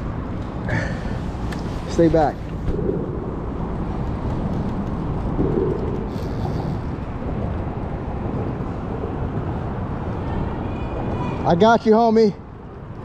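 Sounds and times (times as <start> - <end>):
wind rumble on microphone: 0.0 - 11.5.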